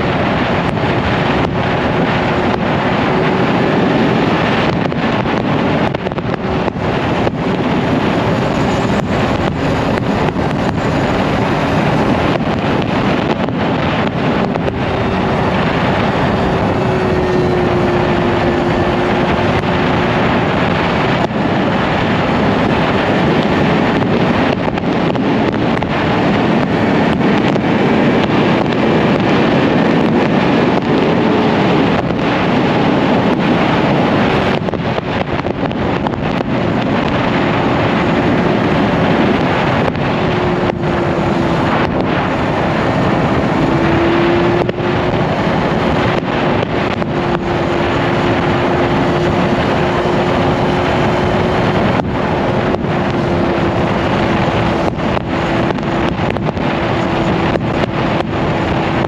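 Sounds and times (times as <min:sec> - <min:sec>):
motorcycle engine droning: 0:00.0 - 0:59.0
wind rushing over microphone: 0:00.0 - 0:59.0.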